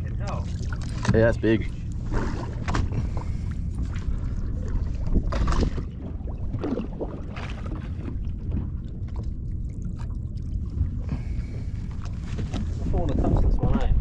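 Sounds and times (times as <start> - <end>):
water against boat hull: 0.0 - 14.0
wind rumbling on microphone: 0.0 - 14.0.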